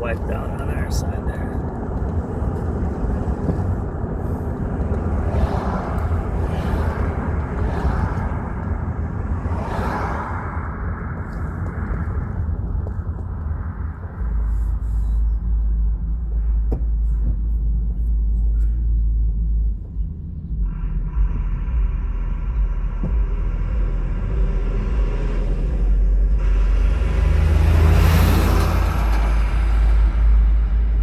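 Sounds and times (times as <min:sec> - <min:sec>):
vehicle passing close: 0:00.0 - 0:15.3, 0:20.7 - 0:31.0
car road noise rumble: 0:00.0 - 0:31.0.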